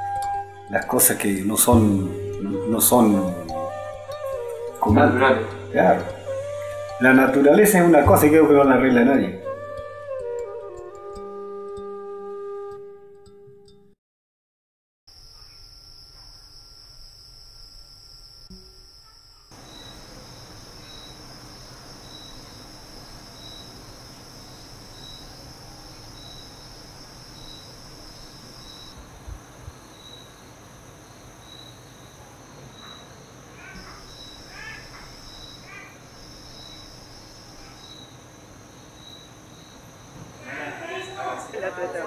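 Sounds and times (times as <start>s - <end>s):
repeating cricket chirp: 0.0s - 11.0s, 15.1s - 42.0s
crickets trilling: 0.0s - 11.3s, 15.1s - 42.0s.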